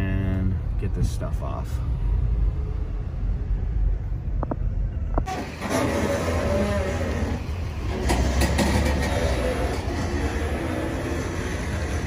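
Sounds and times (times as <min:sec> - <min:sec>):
truck engine rumble: 0:00.0 - 0:12.0.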